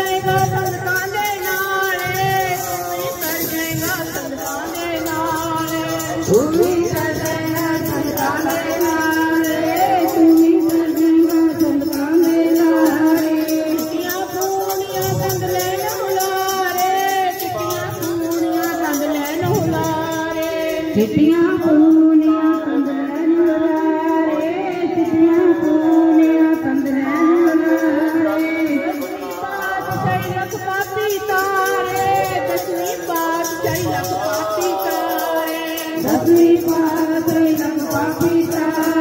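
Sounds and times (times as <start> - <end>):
jingling percussion: 0.0 - 39.0
women singing into microphones: 0.0 - 39.0.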